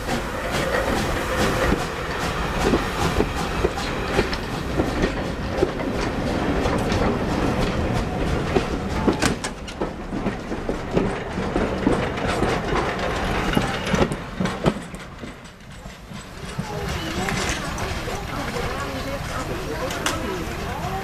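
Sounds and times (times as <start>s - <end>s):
train wheels clattering over rail joints: 0.0s - 21.0s.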